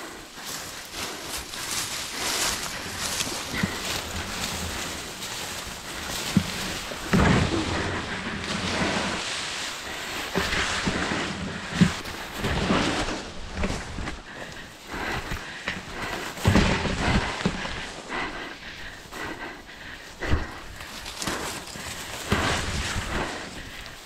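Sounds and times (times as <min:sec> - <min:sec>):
grass rustling against microphone: 0:00.0 - 0:24.0.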